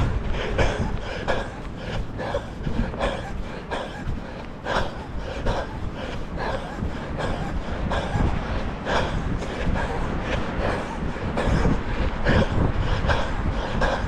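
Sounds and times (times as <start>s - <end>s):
heavy rhythmic breathing: 0.0s - 14.0s
wind rumbling on microphone: 0.0s - 14.0s.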